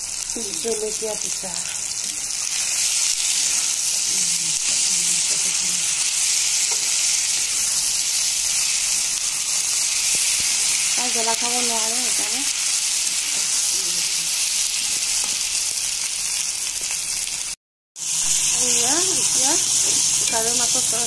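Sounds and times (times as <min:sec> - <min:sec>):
curry sizzling in hot oil: 0:00.0 - 0:21.0.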